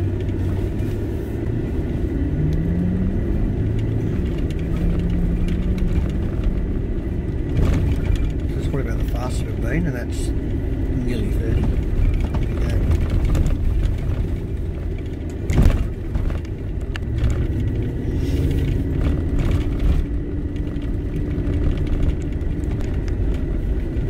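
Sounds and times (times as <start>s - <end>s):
engine and tyre rumble: 0.0s - 24.0s
light rattles: 3.4s - 24.0s.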